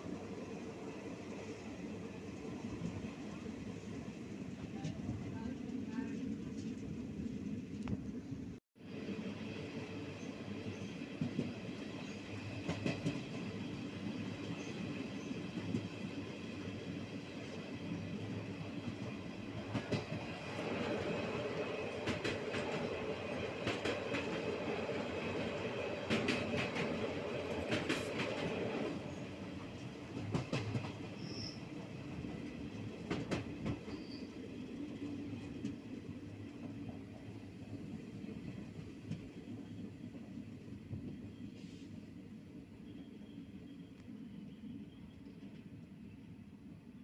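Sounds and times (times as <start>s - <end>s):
wheels rumbling on rail: 0.0s - 46.3s.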